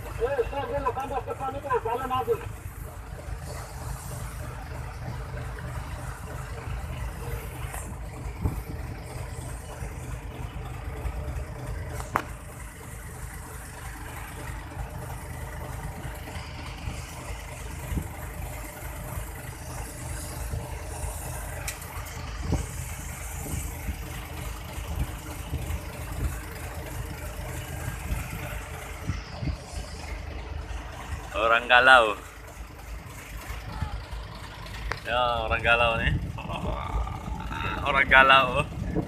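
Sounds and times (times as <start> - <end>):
boat engine idling: 0.0 - 39.0.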